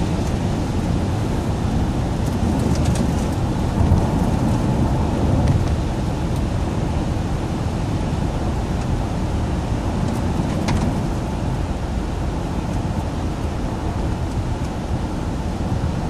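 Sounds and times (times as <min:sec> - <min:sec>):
car engine hum: 0:00.0 - 0:16.0
road and tyre noise: 0:00.0 - 0:16.0.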